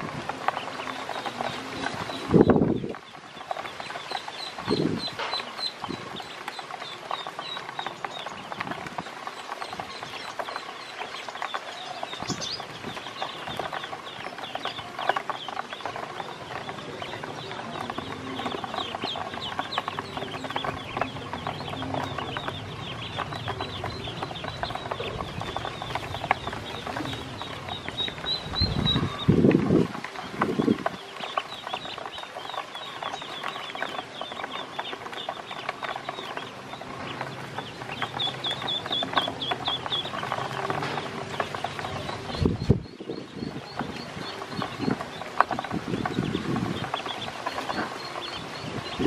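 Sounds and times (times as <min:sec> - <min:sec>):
bills pecking plastic basin: 0:00.0 - 0:49.0
ducklings peeping: 0:00.0 - 0:49.0.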